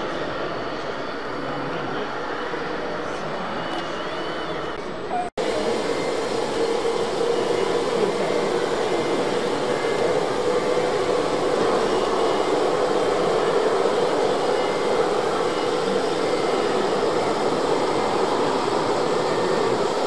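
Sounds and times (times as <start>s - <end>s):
constant hum: 0.0s - 20.0s
crowded hall din: 0.0s - 20.0s.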